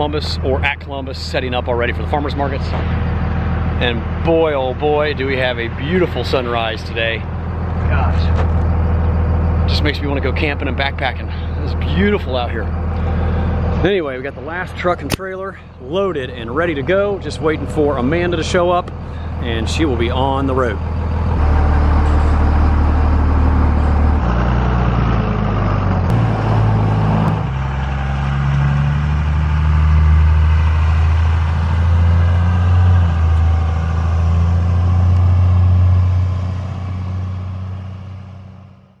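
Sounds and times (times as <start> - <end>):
truck engine drone: 0.0 - 39.0.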